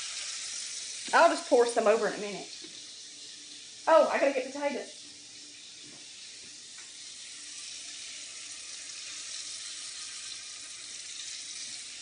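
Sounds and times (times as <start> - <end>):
food frying in butter: 0.0 - 12.0.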